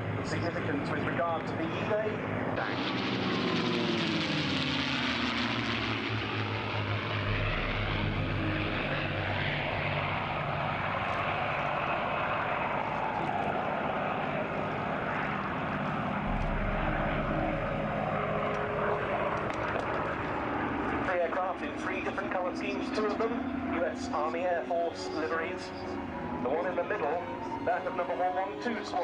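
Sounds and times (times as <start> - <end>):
propeller planes droning past: 0.0 - 29.0.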